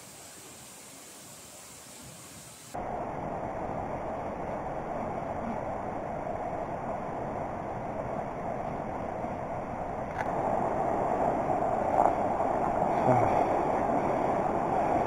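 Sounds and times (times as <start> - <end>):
river flowing over rocks: 0.0 - 15.0.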